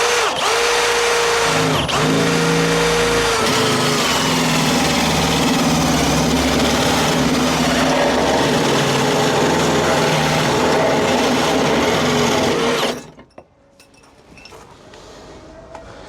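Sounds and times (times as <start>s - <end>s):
electric drill cutting metal: 0.0s - 13.1s.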